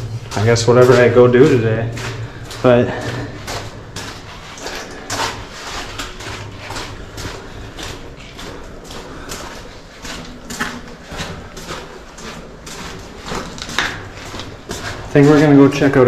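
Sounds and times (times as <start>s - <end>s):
footsteps with gritty scuffs: 0.0s - 16.0s.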